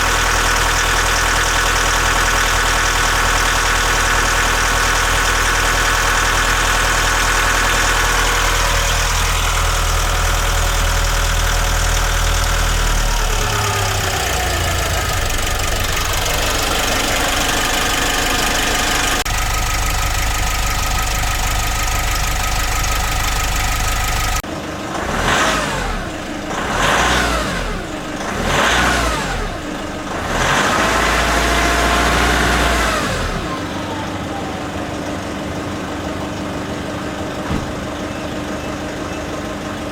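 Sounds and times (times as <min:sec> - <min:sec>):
engine revving: 0:00.0 - 0:34.1
diesel engine running: 0:00.0 - 0:39.9.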